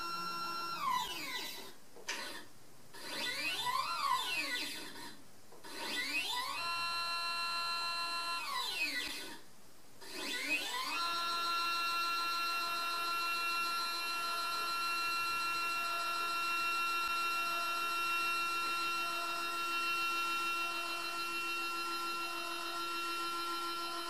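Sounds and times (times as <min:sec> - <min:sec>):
motor whine: 0:00.0 - 0:09.4, 0:10.0 - 0:24.0.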